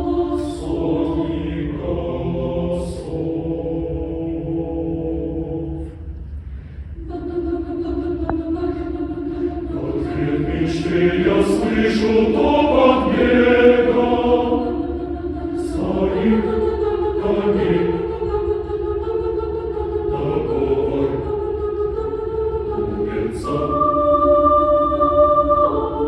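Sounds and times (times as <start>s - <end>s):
choir singing sustained chords: 0.0s - 26.0s.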